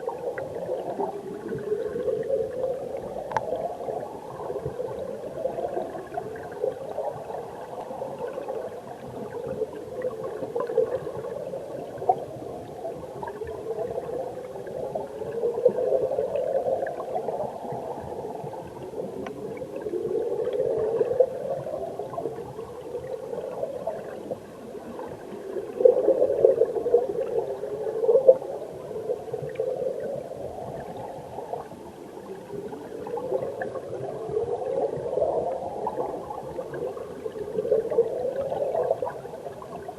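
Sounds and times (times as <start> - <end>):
muffled underwater stream gurgling: 0.0 - 39.9.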